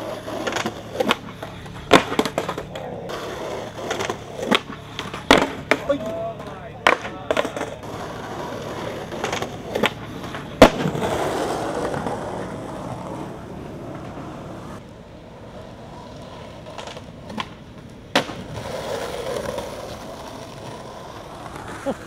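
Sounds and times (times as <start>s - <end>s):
skateboard clacking: 0.0s - 22.0s
skateboard wheels rolling: 0.0s - 22.0s.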